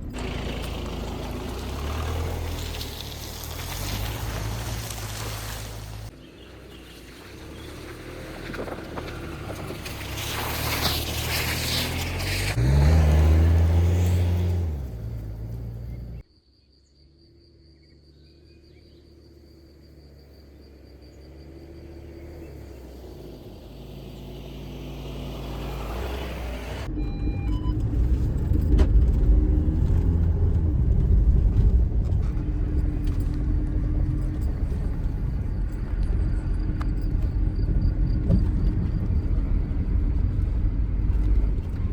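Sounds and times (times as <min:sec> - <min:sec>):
car engine revving: 0:00.0 - 0:16.2, 0:20.2 - 0:41.9
driving noise: 0:00.0 - 0:16.2, 0:19.8 - 0:41.9.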